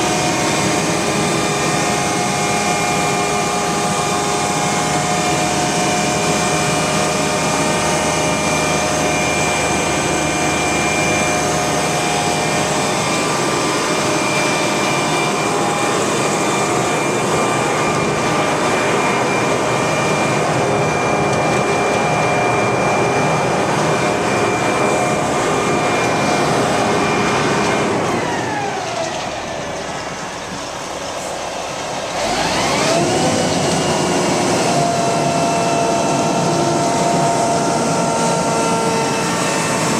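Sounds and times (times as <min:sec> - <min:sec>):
diesel engine whining: 0:00.0 - 0:39.9.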